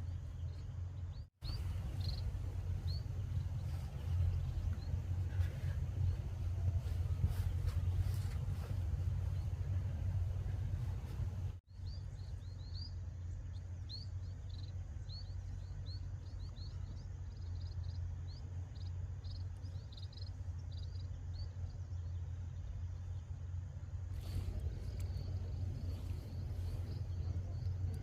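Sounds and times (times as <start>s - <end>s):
small bird chirping: 0.0s - 23.3s
low rumble: 0.0s - 28.0s.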